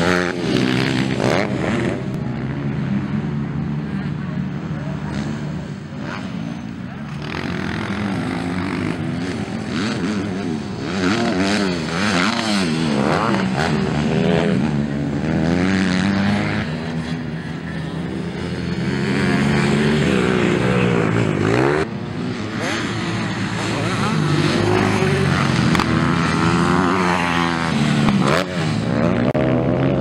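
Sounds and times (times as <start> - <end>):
dirt bike engines racing: 0.0 - 30.0.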